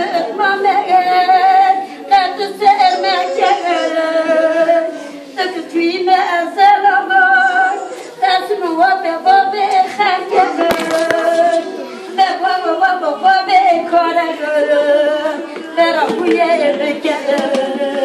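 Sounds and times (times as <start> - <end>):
woman singing a lament: 0.0 - 18.0.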